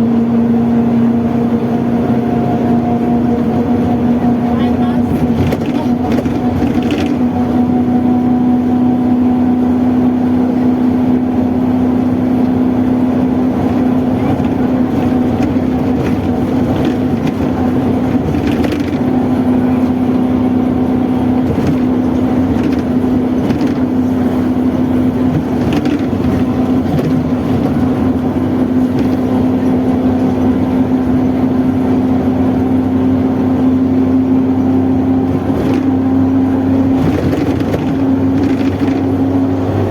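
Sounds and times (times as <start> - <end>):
bus driveshaft droning: 0.0 - 39.9.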